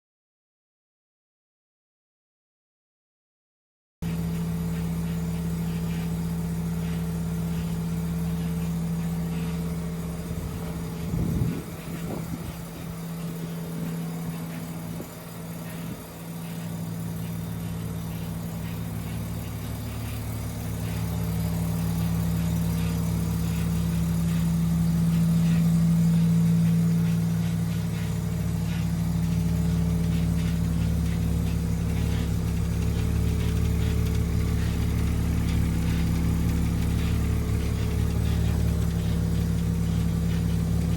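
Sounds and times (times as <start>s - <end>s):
fuel pump rattling clatter: 4.0s - 40.9s
rotary engine idling: 4.0s - 40.9s.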